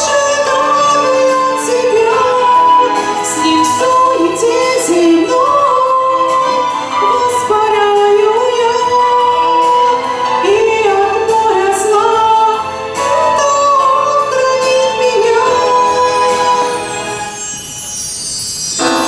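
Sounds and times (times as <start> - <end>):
woman singing: 0.0 - 17.2
musical accompaniment: 0.0 - 19.0.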